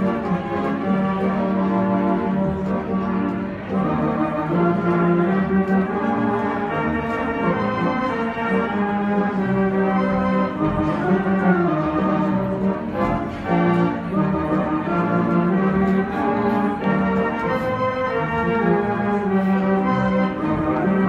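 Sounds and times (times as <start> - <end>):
pipe organ playing chords: 0.0 - 21.0.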